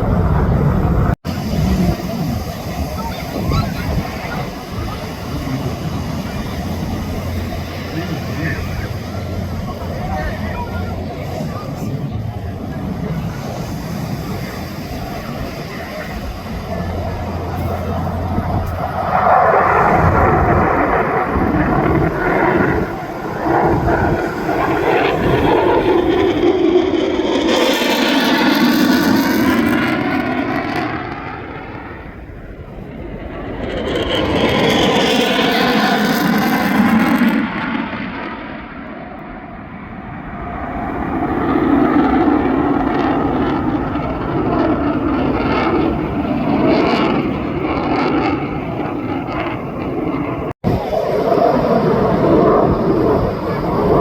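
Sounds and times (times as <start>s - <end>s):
jet engine roaring: 0.0s - 54.0s.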